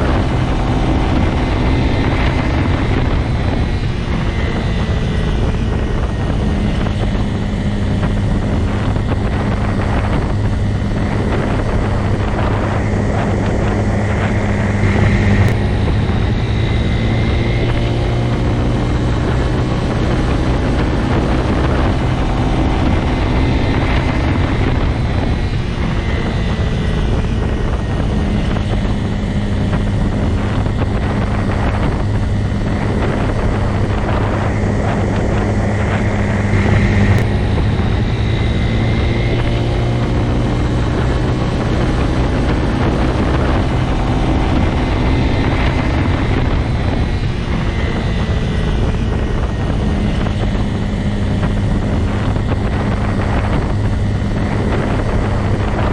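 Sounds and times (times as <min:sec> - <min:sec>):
motorcycle engine running: 0:00.0 - 0:55.9
wind and road noise: 0:00.0 - 0:55.9.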